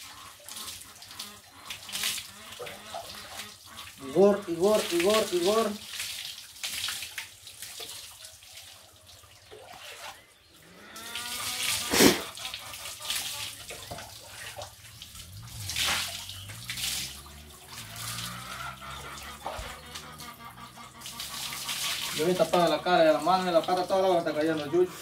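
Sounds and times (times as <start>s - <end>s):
water pouring and splashing: 0.0s - 25.0s.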